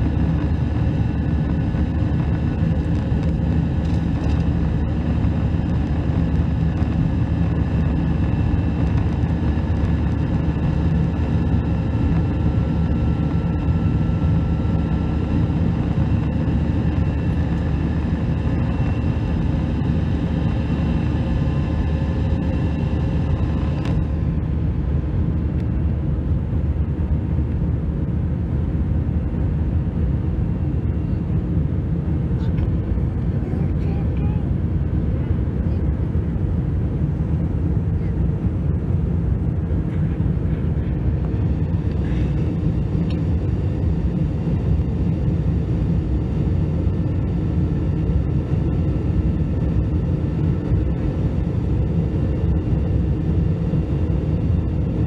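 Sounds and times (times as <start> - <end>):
jet engine low drone in cabin: 0.0 - 55.0.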